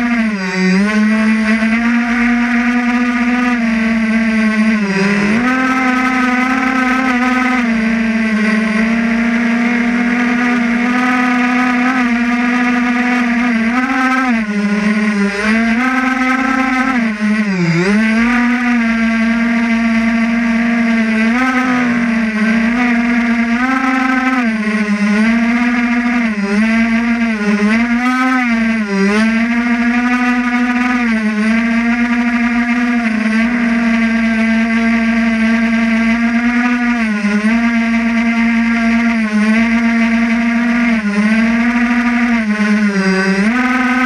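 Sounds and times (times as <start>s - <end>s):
drone propellers whining: 0.0s - 44.0s.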